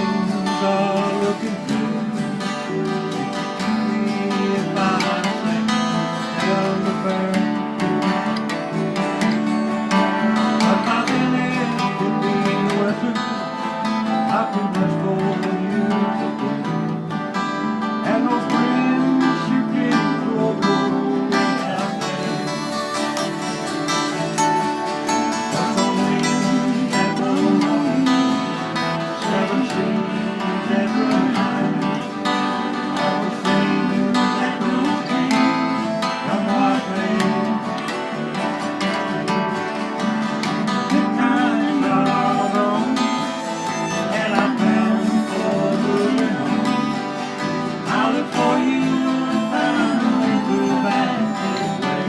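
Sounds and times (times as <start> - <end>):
acoustic guitars strumming and picking: 0.0 - 52.0.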